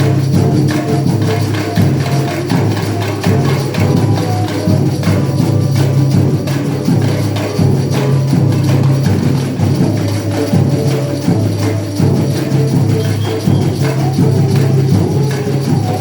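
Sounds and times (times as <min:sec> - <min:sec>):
percussion hits: 0:00.0 - 0:16.0.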